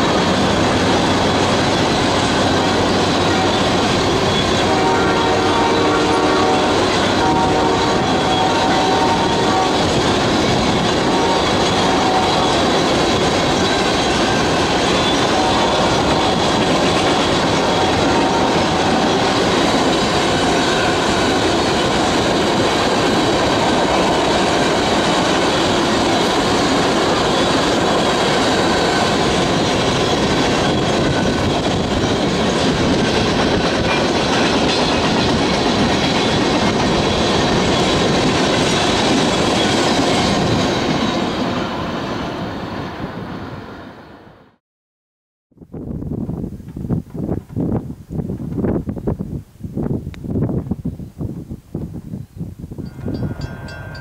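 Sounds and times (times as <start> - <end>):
freight train wheels rumbling: 0.0 - 44.4, 45.6 - 54.0.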